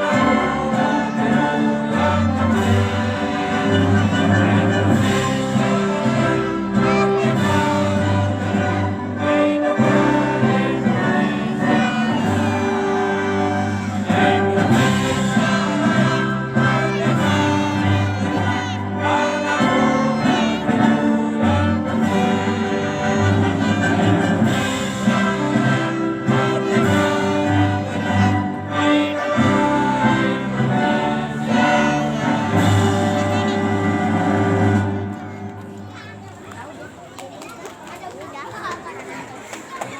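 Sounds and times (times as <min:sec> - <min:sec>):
women's choir singing: 0:00.0 - 0:34.4
instrumental accompaniment: 0:00.0 - 0:35.8.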